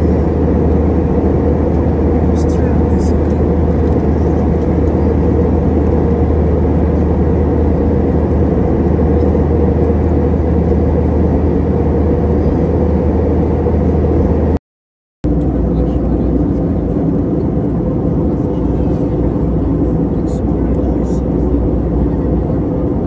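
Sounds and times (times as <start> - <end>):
airliner cabin noise: 0.0 - 14.6, 15.2 - 23.0.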